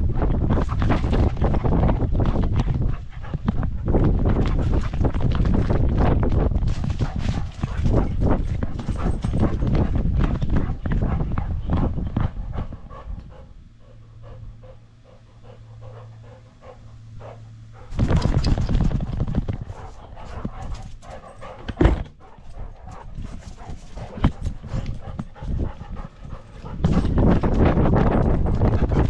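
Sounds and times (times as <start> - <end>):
dog panting: 0.2 - 5.1, 6.9 - 18.4, 19.4 - 29.0.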